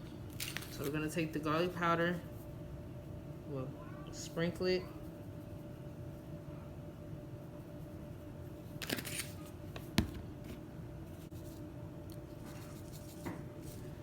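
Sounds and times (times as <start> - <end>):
low steady background hum: 0.0 - 14.0.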